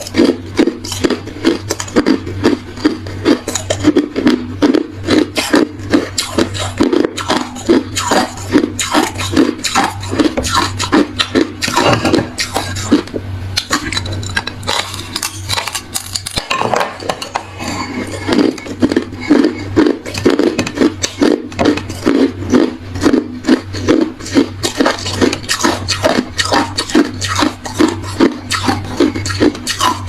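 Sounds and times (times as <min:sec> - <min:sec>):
crunching and chewing ice: 0:00.0 - 0:30.0.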